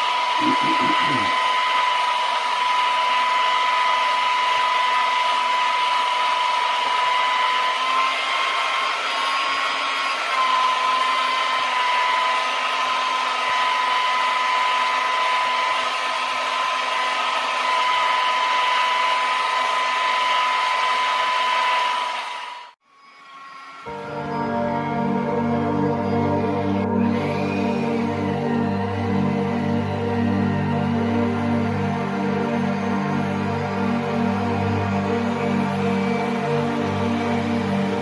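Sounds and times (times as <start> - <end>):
electric drill mixing liquid: 0.0 - 24.0, 26.5 - 38.0.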